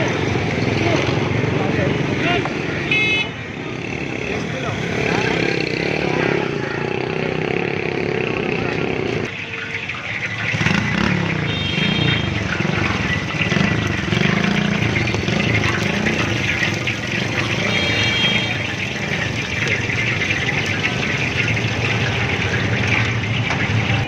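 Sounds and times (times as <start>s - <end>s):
car and motorcycle engines: 0.0s - 24.0s.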